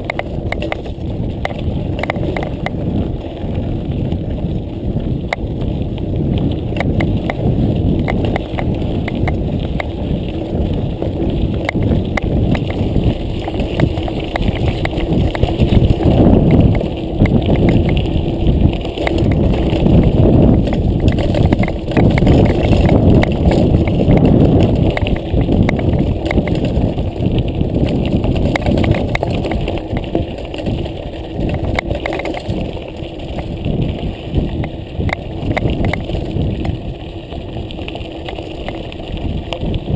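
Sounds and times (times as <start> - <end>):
bike rattling over bumps: 0.0 - 39.9
bike tyres crunching over gravel: 0.0 - 39.9.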